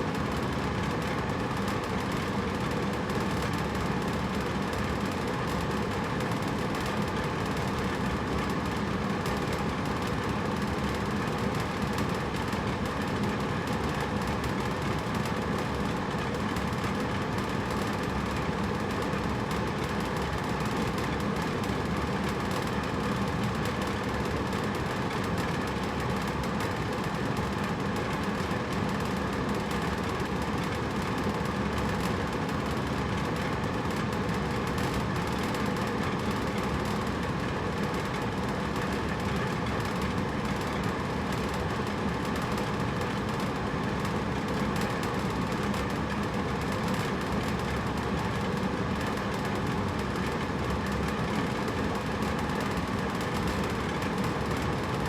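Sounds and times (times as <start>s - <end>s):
air conditioner running: 0.0s - 55.0s.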